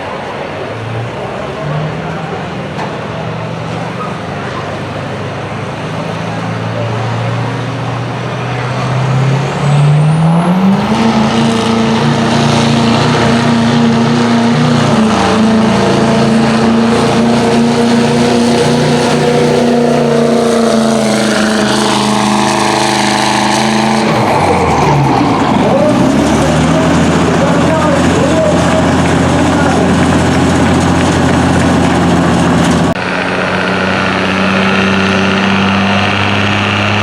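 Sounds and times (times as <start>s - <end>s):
diesel truck engine revving: 0.0s - 37.0s
turbocharger whine: 0.0s - 37.0s.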